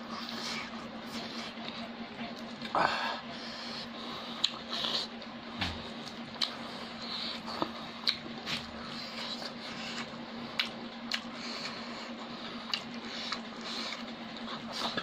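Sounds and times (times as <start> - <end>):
steady low hum: 0.0 - 15.0
wet chewing and lip-smacking: 0.1 - 2.8, 3.8 - 15.0.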